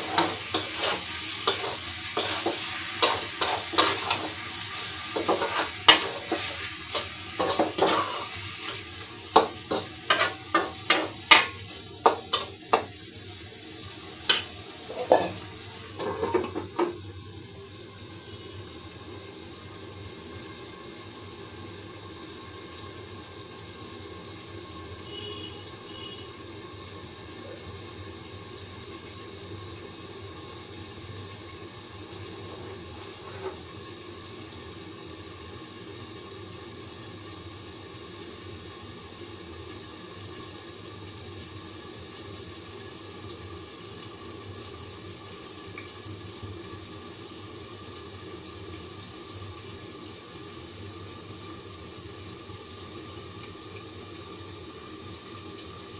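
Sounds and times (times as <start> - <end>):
vegetables sizzling in a pan: 0.0 - 55.9.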